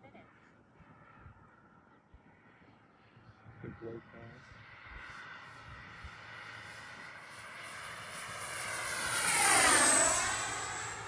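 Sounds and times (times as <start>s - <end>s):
model jet fans whining fly-by: 0.1s - 11.0s.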